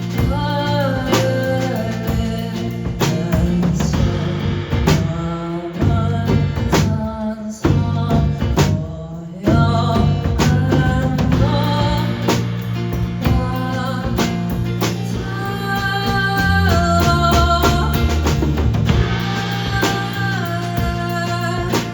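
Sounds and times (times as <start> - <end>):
guitar: 0.0 - 21.9
person singing: 0.0 - 21.9.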